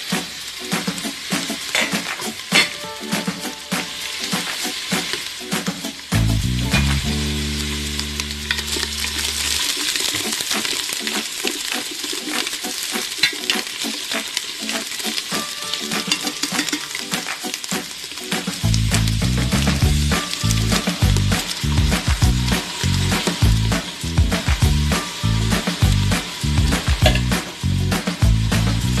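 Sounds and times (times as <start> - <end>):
mushrooms sizzling in oil: 0.0 - 29.0.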